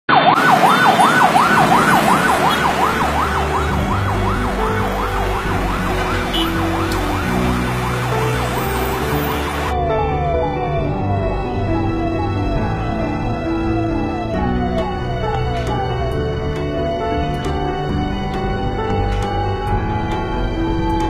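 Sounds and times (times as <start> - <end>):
ambulance siren wailing: 0.1 - 21.0.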